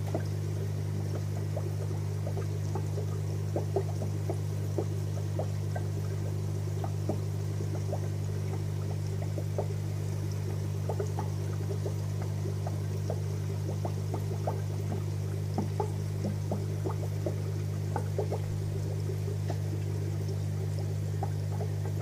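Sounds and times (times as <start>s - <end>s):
sponge filter bubbling: 0.0s - 22.0s
steady low hum: 0.0s - 22.0s
trickling water: 0.0s - 22.0s.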